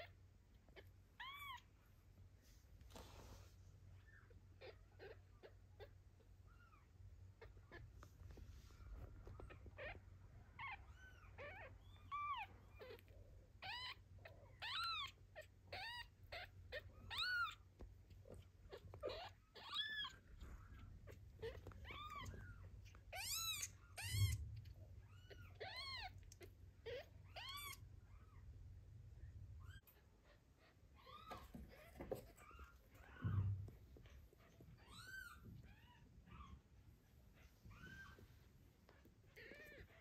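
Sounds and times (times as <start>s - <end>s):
kitten squeaking: 0.0s - 1.8s, 3.9s - 28.5s, 29.6s - 36.7s, 37.3s - 40.0s.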